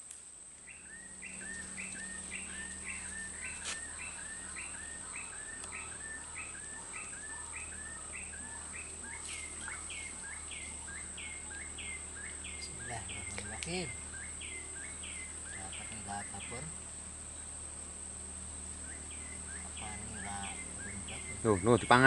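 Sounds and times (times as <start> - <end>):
high-pitched whine: 0.0 - 22.0
bird calling falling chirps: 0.6 - 17.6, 18.5 - 22.0.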